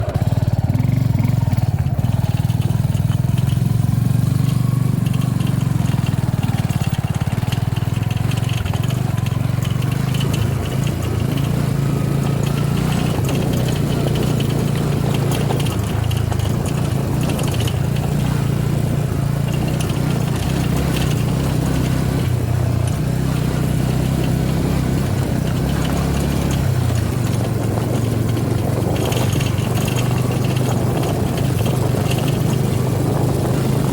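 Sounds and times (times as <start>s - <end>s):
motorcycle engine idling: 0.0s - 33.9s
rattling from motorcycle: 0.0s - 33.9s.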